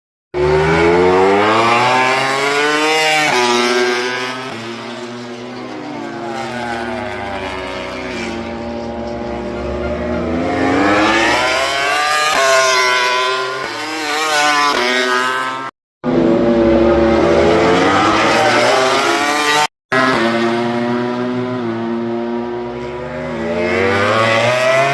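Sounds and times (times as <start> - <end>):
racing motorcycles at full throttle: 0.4 - 24.9.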